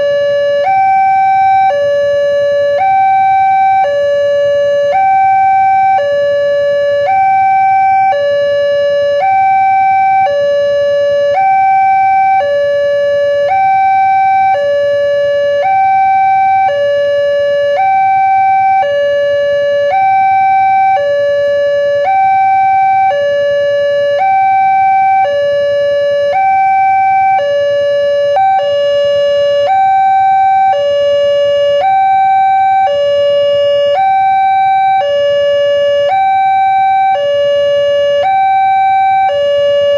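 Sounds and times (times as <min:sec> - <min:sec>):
level-crossing two-tone siren: 0:00.0 - 0:39.9.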